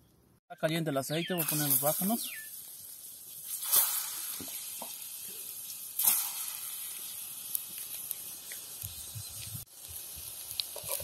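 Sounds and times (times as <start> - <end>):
plantain frying in hot oil: 1.4 - 11.0.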